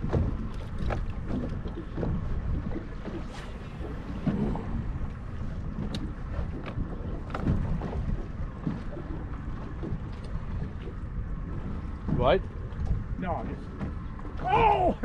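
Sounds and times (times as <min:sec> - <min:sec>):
water noise: 0:00.0 - 0:15.0
wind buffeting microphone: 0:00.0 - 0:15.0.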